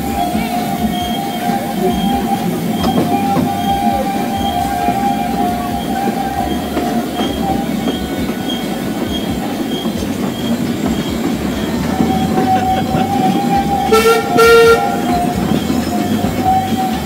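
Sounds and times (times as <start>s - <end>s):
high wheel squeal: 0.0s - 17.0s
train wheels rumbling on rails: 0.0s - 17.0s
train whistle toots: 0.0s - 17.0s.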